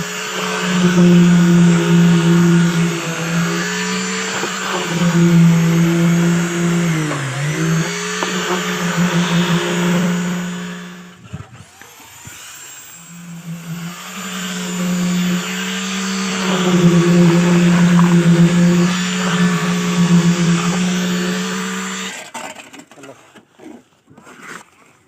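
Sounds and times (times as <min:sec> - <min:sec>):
motor-driven machine running: 0:00.0 - 0:22.2.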